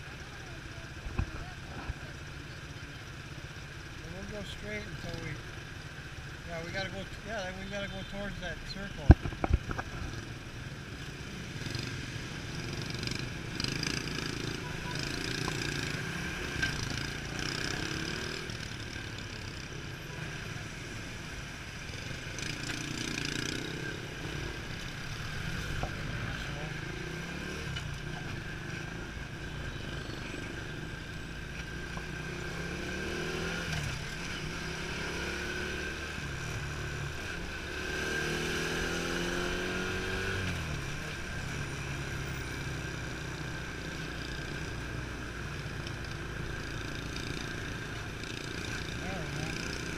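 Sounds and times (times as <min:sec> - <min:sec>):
motorcycle engine running: 0:00.0 - 0:49.9
road and traffic noise: 0:00.0 - 0:49.9.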